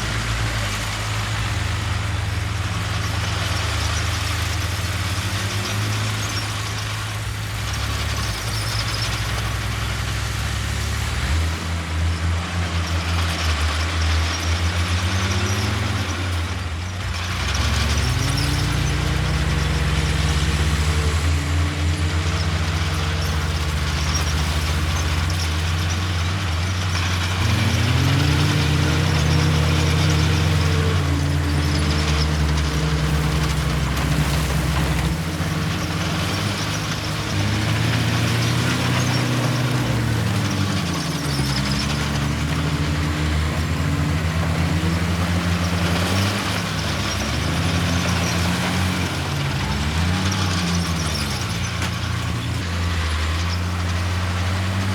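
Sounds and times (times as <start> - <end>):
heavy diesel engine revving: 0.0 - 54.9.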